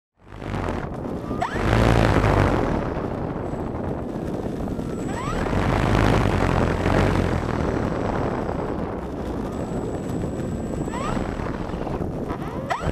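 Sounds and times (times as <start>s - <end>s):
model plane propeller roar: 0.2s - 12.9s.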